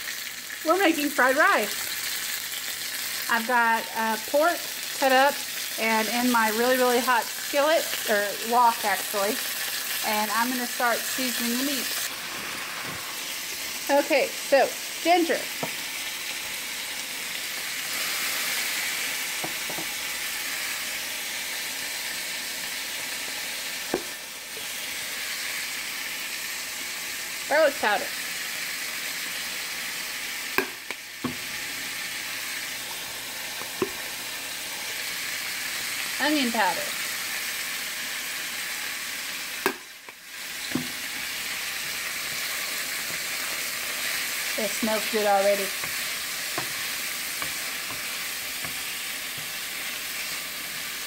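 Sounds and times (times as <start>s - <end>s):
meat sizzling in a skillet: 0.0s - 51.0s.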